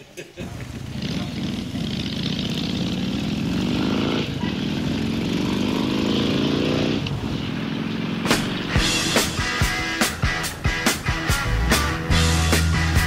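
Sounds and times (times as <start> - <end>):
motorcycle engine accelerating: 0.4 - 13.0.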